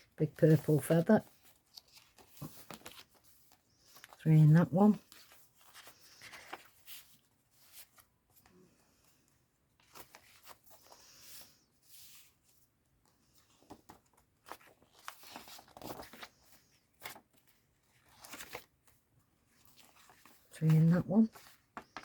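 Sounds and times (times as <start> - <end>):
paper rustling: 0.0 - 22.0.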